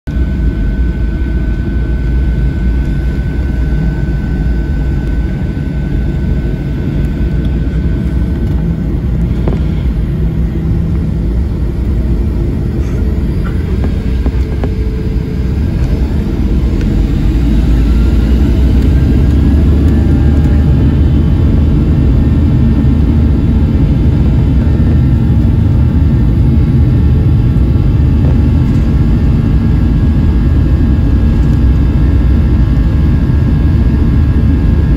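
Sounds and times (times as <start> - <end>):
engine whine rising: 0.1 - 34.9
jet engines rumbling: 0.1 - 34.9.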